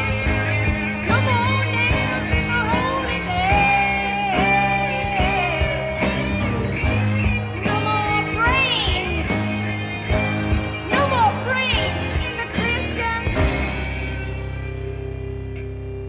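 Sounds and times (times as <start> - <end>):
psychedelic rock band playing: 0.0 - 16.0.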